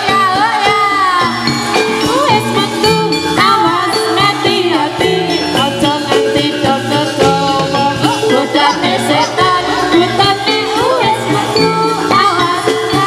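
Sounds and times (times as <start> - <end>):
bells jingling: 0.0 - 13.0
sustained metallophone notes: 0.0 - 13.0.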